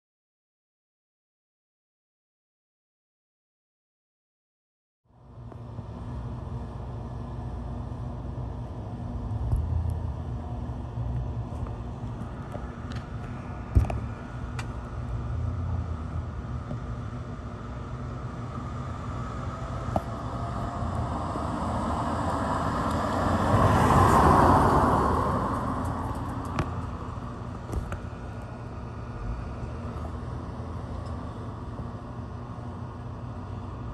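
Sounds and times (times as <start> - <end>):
ceiling fan motor hum: 5.2 - 33.9.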